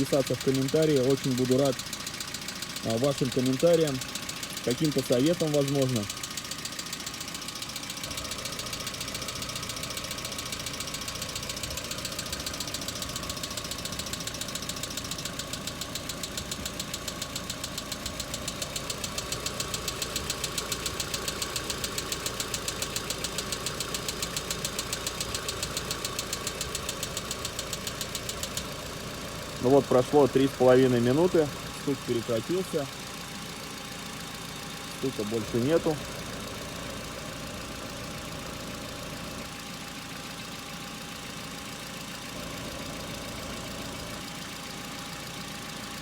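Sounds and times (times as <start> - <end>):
fast even lifter ticking: 0.0 - 38.6
petrol engine idling: 0.0 - 46.0.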